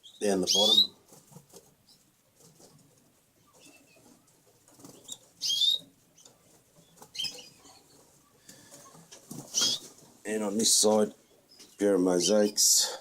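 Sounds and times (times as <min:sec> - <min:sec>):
canary chirping: 0:00.0 - 0:10.2, 0:10.8 - 0:12.7
birds fluttering and rustling: 0:00.0 - 0:12.9.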